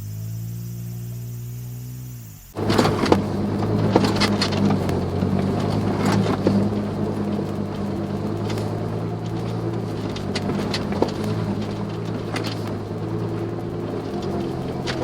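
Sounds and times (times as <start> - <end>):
car engine running: 0.0 - 15.0
light clicks and knocks: 2.6 - 15.0.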